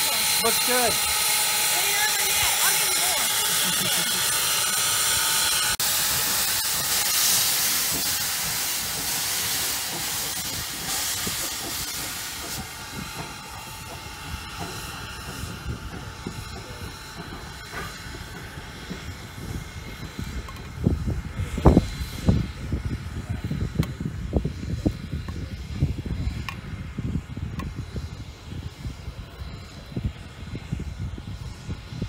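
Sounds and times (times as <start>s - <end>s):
steam locomotive hissing steam: 0.0s - 32.0s.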